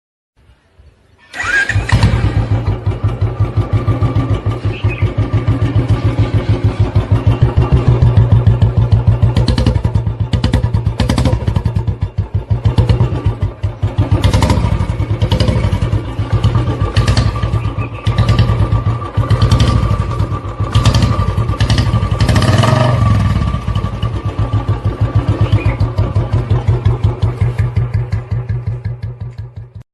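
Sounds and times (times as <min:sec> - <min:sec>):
motorcycle engine idling: 0:01.4 - 0:29.8.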